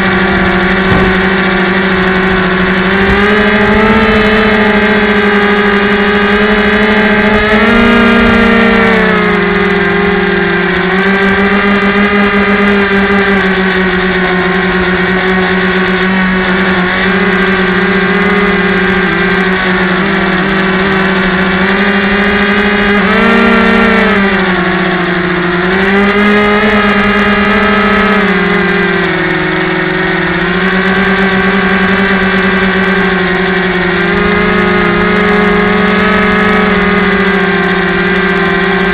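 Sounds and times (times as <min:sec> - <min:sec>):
small electric motor and propeller humming: 0:00.0 - 0:38.9.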